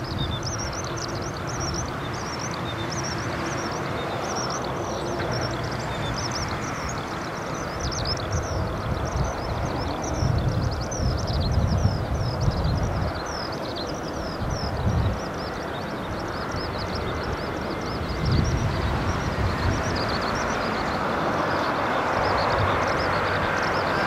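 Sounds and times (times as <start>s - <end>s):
distant jet engine rush: 0.0s - 24.0s
small birds chirping: 0.0s - 24.0s
wind rumble on microphone: 0.0s - 24.0s.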